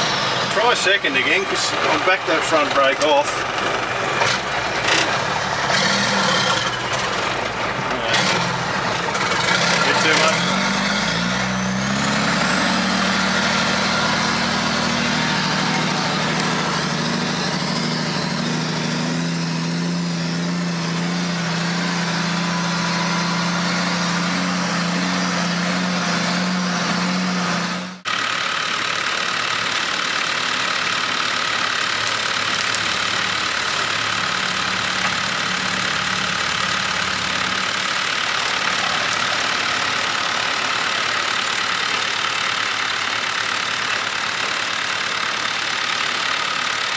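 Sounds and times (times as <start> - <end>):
truck diesel engine pulling: 0.0 - 46.9.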